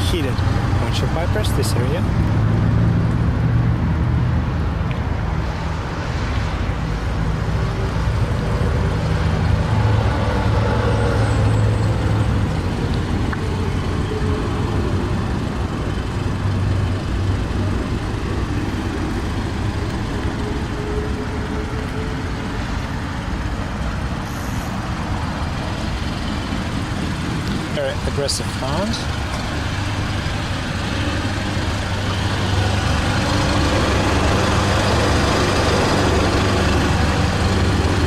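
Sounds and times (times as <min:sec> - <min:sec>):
road traffic noise: 0:00.0 - 0:38.0
vehicle engine running: 0:06.6 - 0:38.0.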